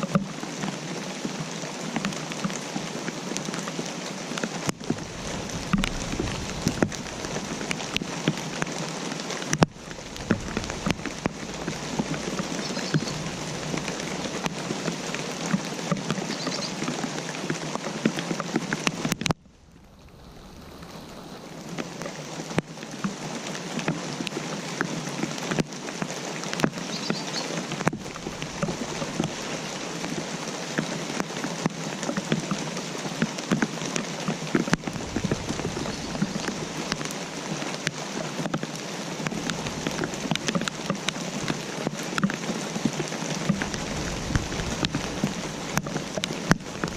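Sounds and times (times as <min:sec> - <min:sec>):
steady rainfall: 0:00.0 - 0:46.9.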